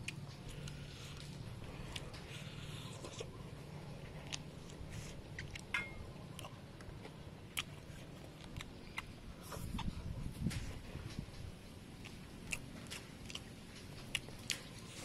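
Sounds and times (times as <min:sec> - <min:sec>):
biting and chewing fried chicken: 0:00.0 - 0:15.0.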